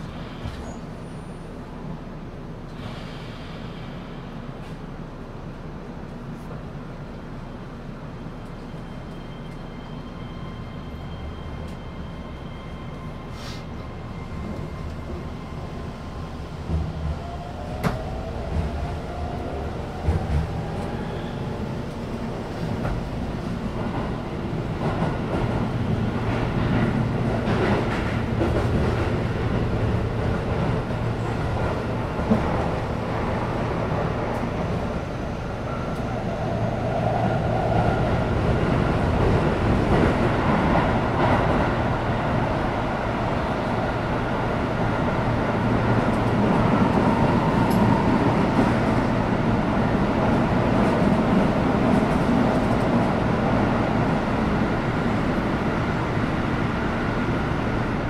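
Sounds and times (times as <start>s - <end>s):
train rumble and hum: 0.0s - 58.0s.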